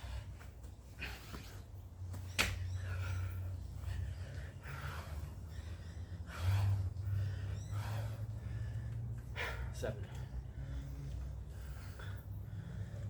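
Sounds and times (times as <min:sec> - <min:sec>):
man breathing heavily: 0:00.0 - 0:13.0
steady low hum: 0:00.0 - 0:13.0.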